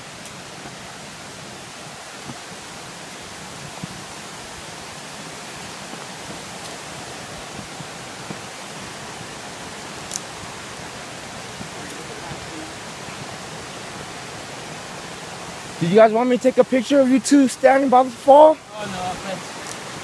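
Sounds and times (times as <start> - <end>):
waterfall and creek roaring: 0.0 - 20.0.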